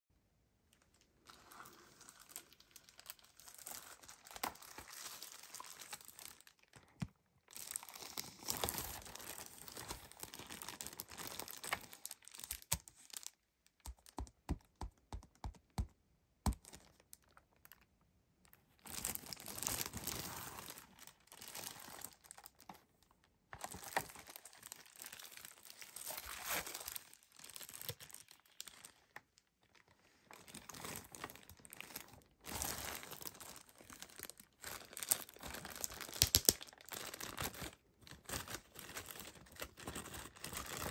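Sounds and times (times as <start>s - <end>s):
plastic wrapping crinkling: 0.7s - 15.9s, 16.5s - 17.9s, 18.8s - 23.0s, 23.6s - 40.9s.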